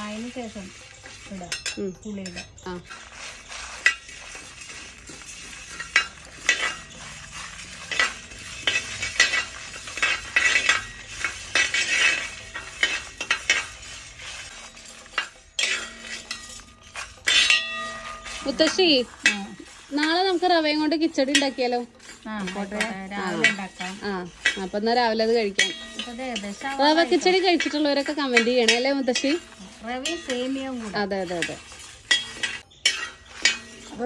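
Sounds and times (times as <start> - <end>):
utensil scraping a pan: 0.0 - 34.0.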